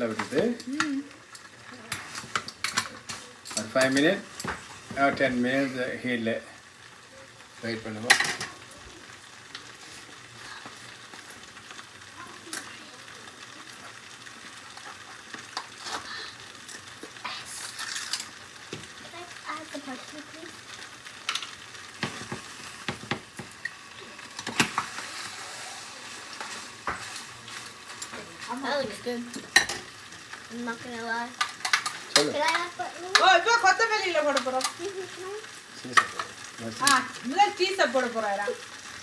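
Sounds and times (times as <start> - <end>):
food sizzling in a frying pan: 0.0 - 39.0.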